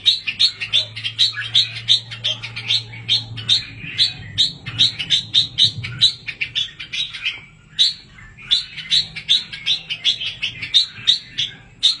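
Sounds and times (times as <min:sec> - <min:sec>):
bird chicks chirping: 0:00.0 - 0:12.0.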